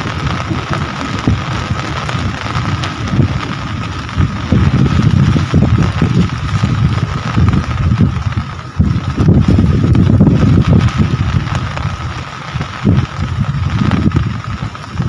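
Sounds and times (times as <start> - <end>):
low rumble: 0.0 - 15.0
rain falling: 0.0 - 15.0.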